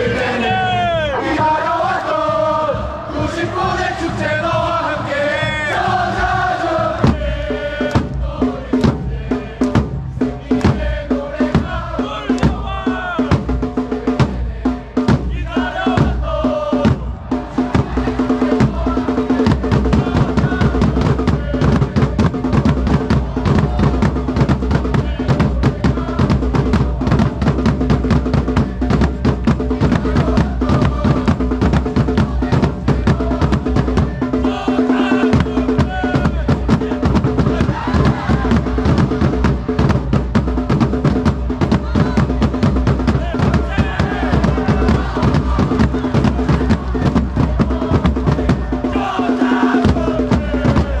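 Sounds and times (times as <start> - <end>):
bass and snare drums beating: 0.0 - 51.0
crowd singing a chant: 0.0 - 51.0.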